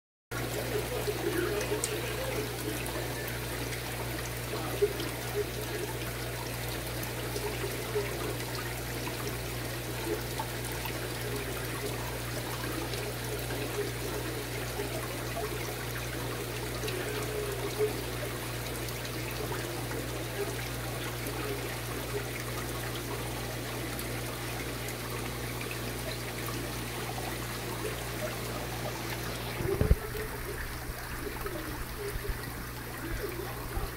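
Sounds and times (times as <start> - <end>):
water trickling: 0.4 - 33.9.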